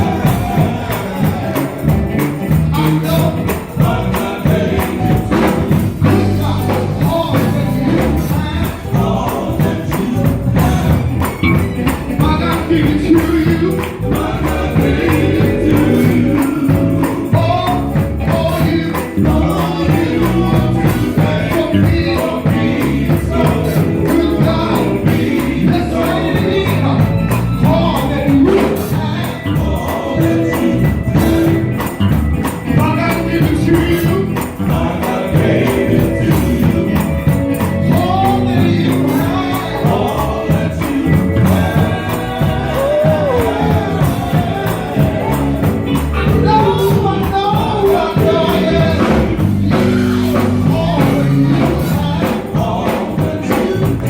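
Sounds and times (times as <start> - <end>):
gospel band performing live: 0.0 - 54.0
voices singing: 0.0 - 54.0.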